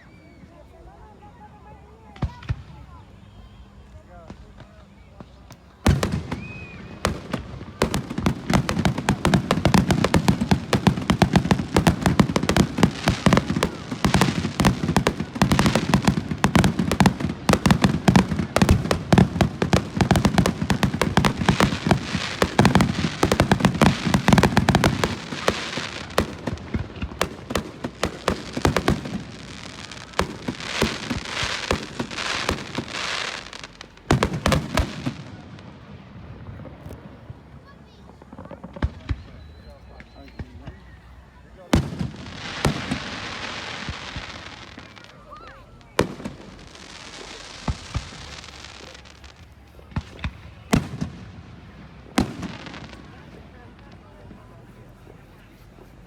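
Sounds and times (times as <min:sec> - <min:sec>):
fireworks cracking and popping: 0:04.1 - 0:56.0.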